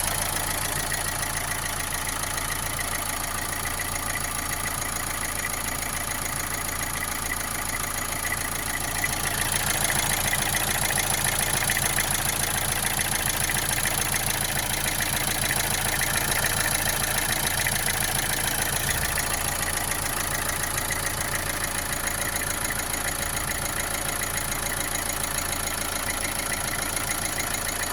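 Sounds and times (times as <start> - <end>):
diesel engine idling with knocking: 0.0 - 27.9.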